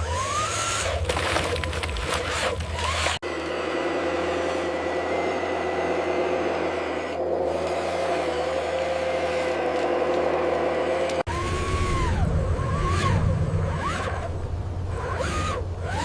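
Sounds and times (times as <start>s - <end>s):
toy truck motor and gears whirring: 0.0s - 14.3s, 14.9s - 16.0s.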